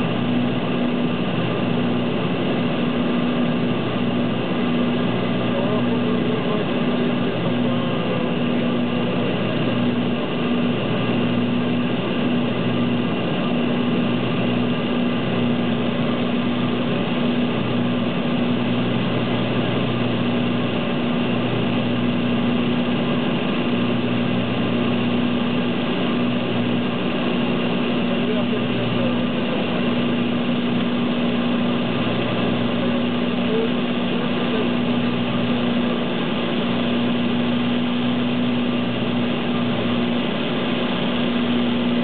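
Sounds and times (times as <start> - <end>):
turboprop engines droning: 0.0 - 42.0.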